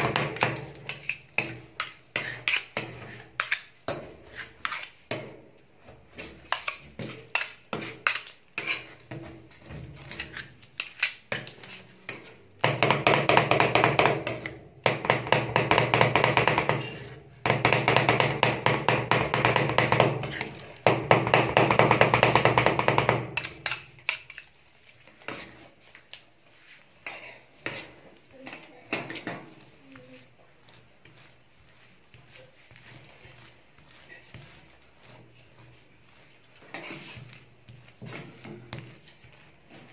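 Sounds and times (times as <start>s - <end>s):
metal spatulas chopping and scraping: 0.0s - 26.3s, 27.0s - 39.9s.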